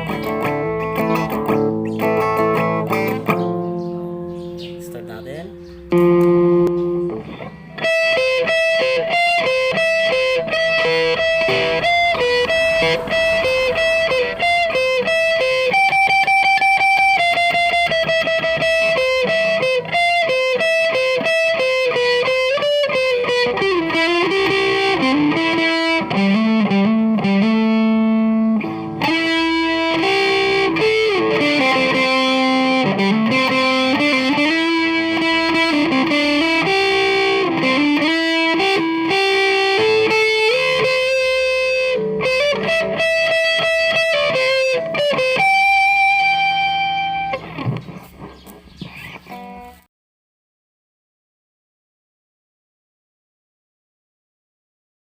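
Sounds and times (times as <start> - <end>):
electric guitar melody: 0.0 - 49.9.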